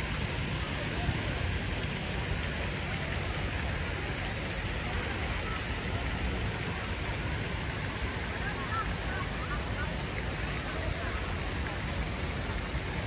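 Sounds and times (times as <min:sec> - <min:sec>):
city ambience with low rumble: 0:00.0 - 0:13.0.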